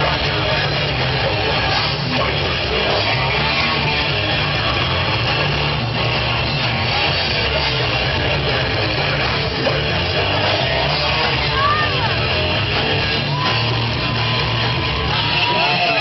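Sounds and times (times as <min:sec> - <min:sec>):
high gliding guitar notes: 0:00.0 - 0:16.0
live rock band playing: 0:00.0 - 0:16.0.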